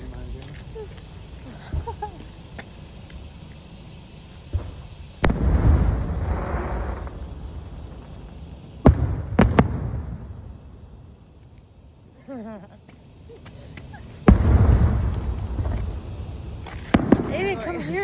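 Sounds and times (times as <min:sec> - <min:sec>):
fireworks exploding: 0:00.0 - 0:18.0.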